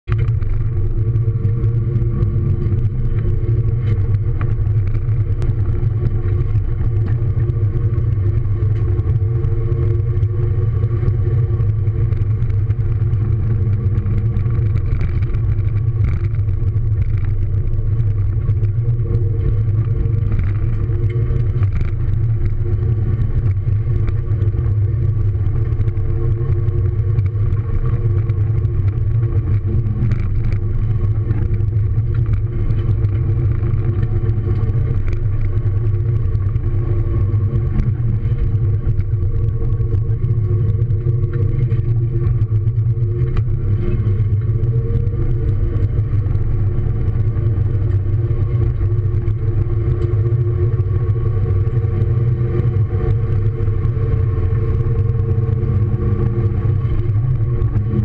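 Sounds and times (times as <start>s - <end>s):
car engine and road drone: 0.0s - 58.0s.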